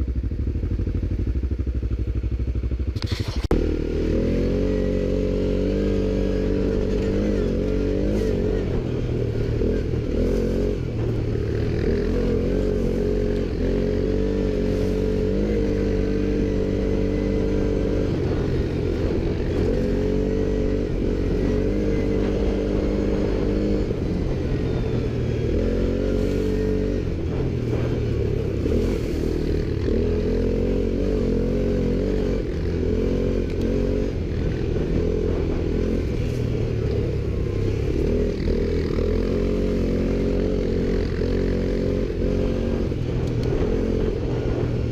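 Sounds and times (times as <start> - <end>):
atv engine revving: 0.0 - 44.9.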